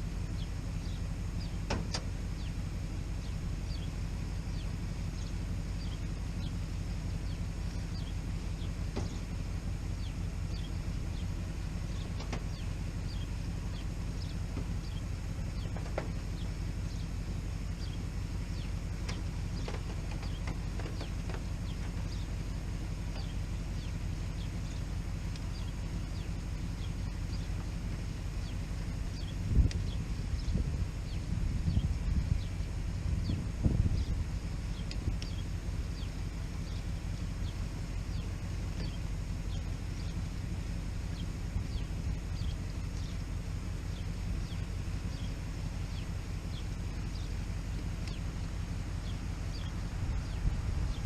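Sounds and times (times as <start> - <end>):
birds chirping: 0.0 - 51.0
low engine hum: 0.0 - 51.0
steady low rumble: 0.0 - 51.0.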